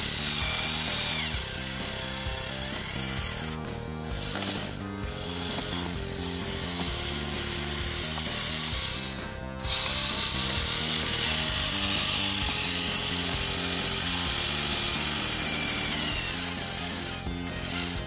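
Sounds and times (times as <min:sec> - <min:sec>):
background music with steady beat: 0:00.0 - 0:18.0
electric motor whirring under load: 0:00.0 - 0:18.0.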